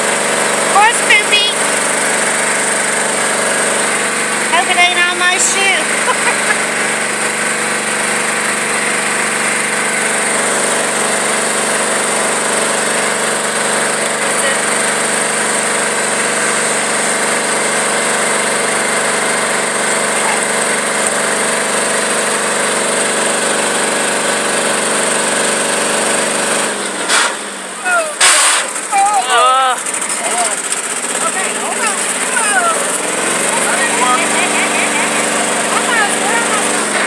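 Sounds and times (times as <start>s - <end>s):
tractor engine idling: 0.0s - 37.0s.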